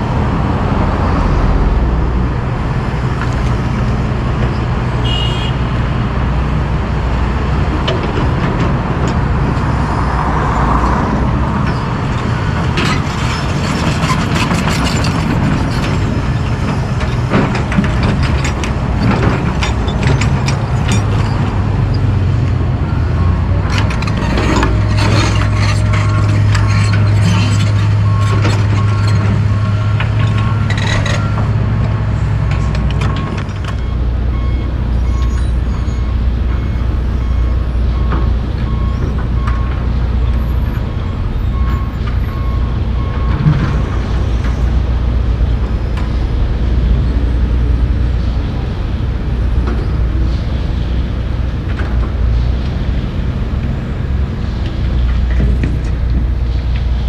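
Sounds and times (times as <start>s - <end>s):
excavator diesel engines droning: 0.0s - 57.0s.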